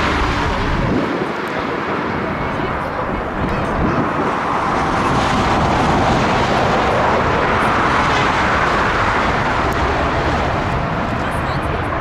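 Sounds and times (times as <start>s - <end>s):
jet engines on approach: 0.0s - 12.0s.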